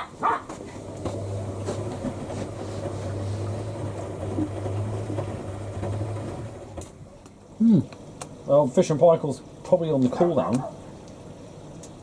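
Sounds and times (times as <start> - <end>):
washing machines churning: 0.0 - 12.0
steady low hum: 0.7 - 12.0.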